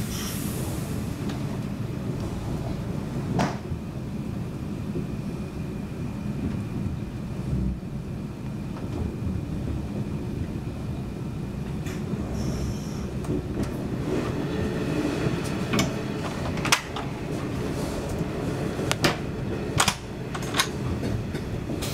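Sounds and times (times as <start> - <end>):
train rumbling: 0.0 - 21.9.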